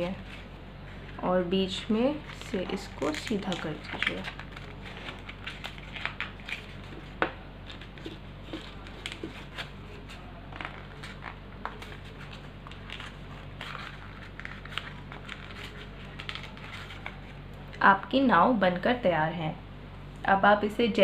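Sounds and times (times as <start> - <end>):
paper crinkling and crackling: 0.0 - 17.8
steady low hum: 0.0 - 21.0.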